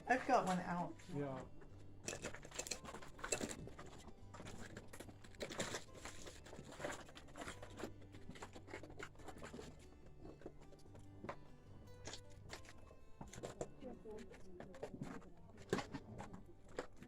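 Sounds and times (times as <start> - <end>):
clicks scrapes and rustles on rock: 0.4 - 17.0.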